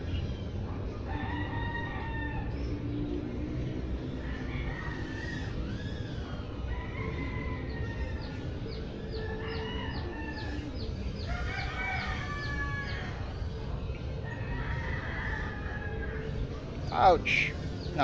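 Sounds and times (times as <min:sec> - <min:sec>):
roosters crowing: 0:00.9 - 0:18.0.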